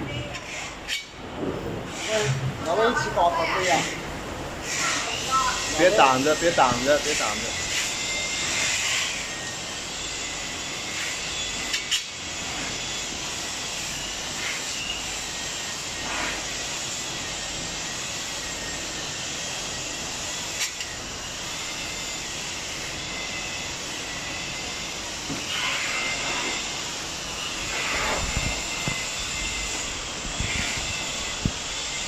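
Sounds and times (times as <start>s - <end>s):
machine noise with high whine: 0.0s - 32.0s.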